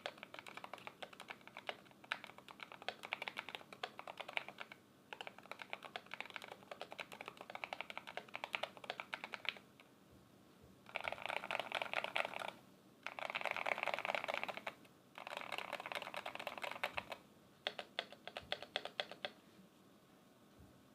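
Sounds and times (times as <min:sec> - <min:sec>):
typing on mechanical keyboard: 0:00.0 - 0:09.6, 0:10.9 - 0:19.4.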